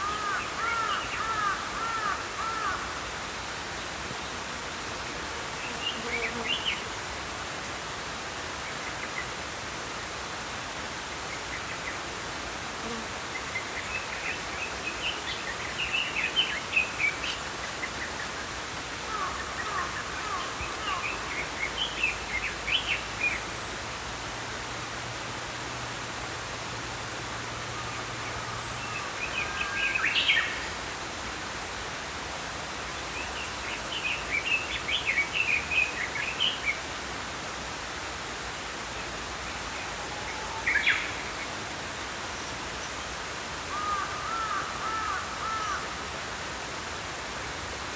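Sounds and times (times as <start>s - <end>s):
brook flowing: 6.6s - 47.9s.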